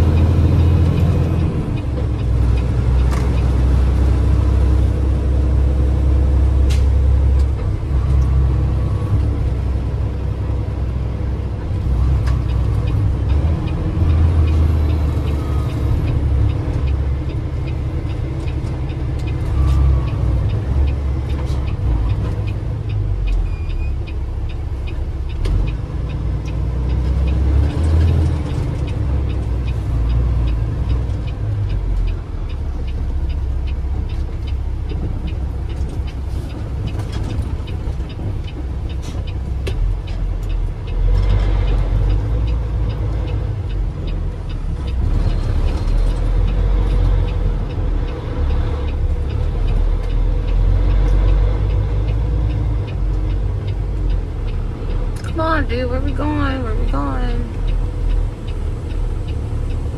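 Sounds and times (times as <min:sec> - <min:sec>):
truck diesel engine running: 0:00.0 - 0:59.9
turn signal ticking: 0:00.0 - 0:59.9.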